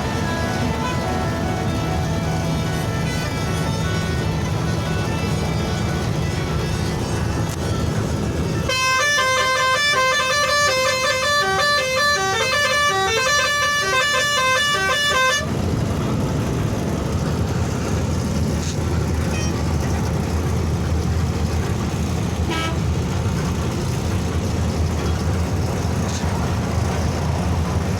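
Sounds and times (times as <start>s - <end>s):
engine rumble and road noise: 0.0s - 27.9s
truck musical horn: 0.0s - 27.9s.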